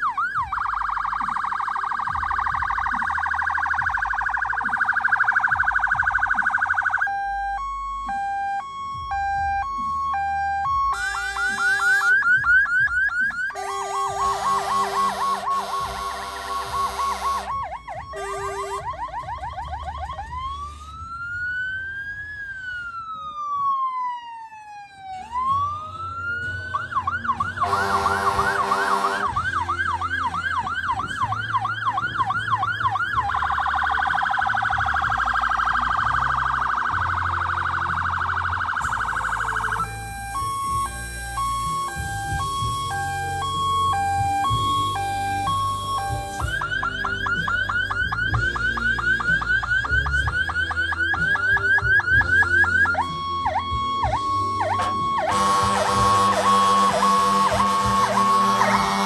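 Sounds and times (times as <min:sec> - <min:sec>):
fire engine sirens: 0:00.0 - 0:59.0.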